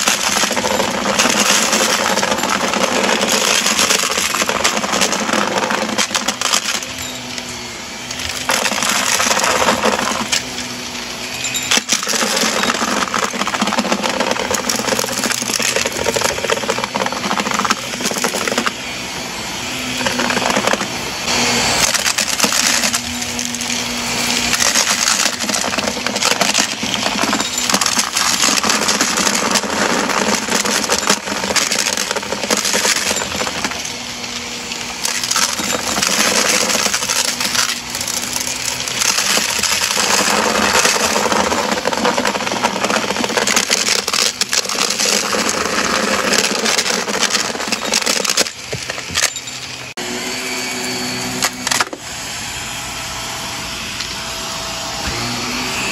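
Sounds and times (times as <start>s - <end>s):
vacuum cleaner motor hum: 0.0s - 55.9s.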